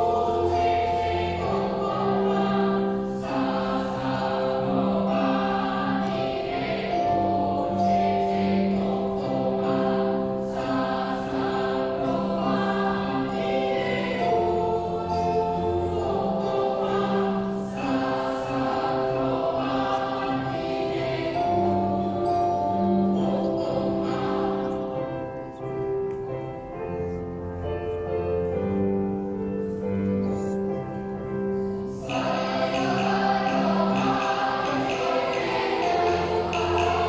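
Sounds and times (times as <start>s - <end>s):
children's choir singing: 0.0s - 27.2s, 31.4s - 37.0s.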